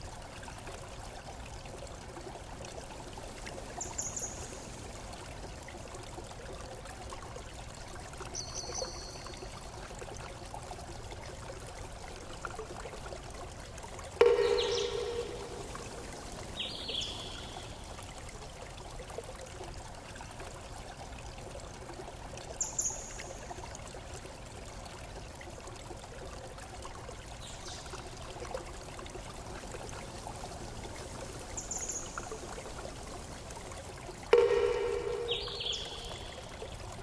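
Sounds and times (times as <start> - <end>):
water trickling: 0.0 - 37.0.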